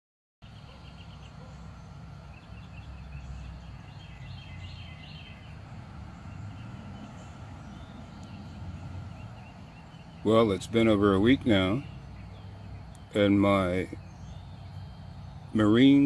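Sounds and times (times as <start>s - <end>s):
low outdoor rumble: 0.4s - 16.0s
small birds chirping: 0.4s - 16.0s.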